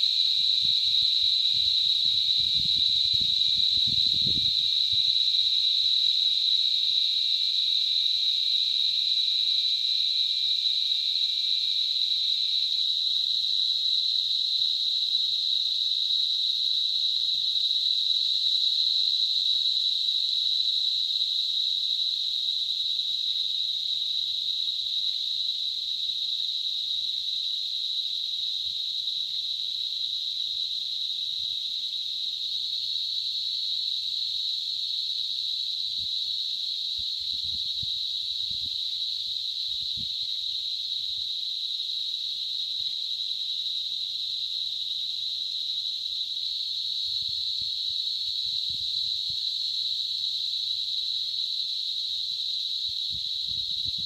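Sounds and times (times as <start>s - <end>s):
cicadas droning: 0.0s - 54.0s
lower cicada tone: 0.0s - 54.0s.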